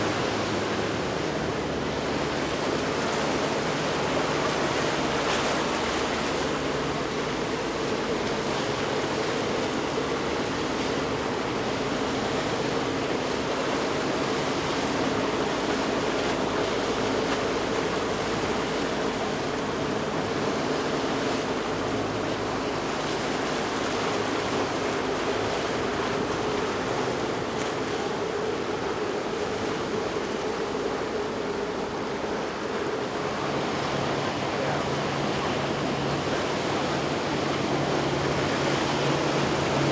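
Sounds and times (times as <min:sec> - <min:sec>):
boat engine hum: 0:00.0 - 0:39.9
water and waves rushing: 0:00.0 - 0:39.9.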